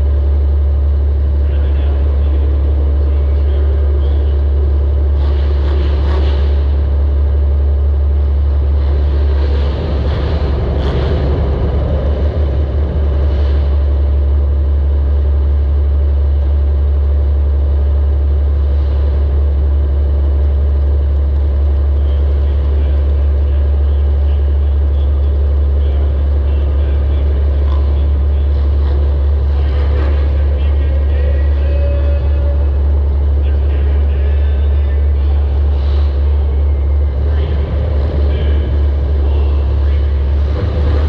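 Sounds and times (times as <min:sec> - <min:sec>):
car engine rumbling: 0:00.0 - 0:41.0.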